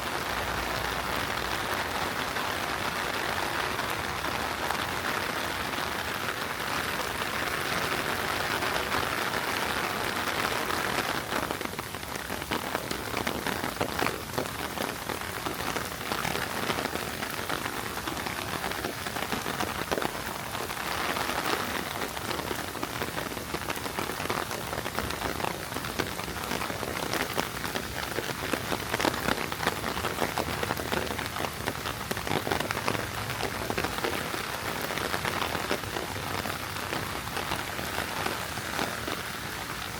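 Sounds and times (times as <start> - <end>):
heavy rain falling: 0.0 - 39.9
raindrops tapping sharply: 0.2 - 39.9.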